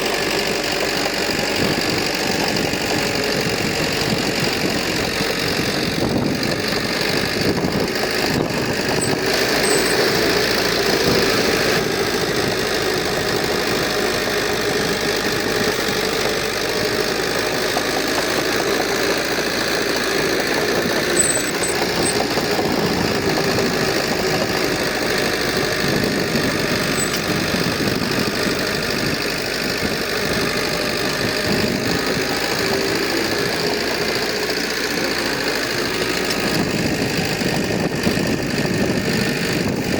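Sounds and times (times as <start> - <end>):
diesel engine running with knocking: 0.0 - 39.9.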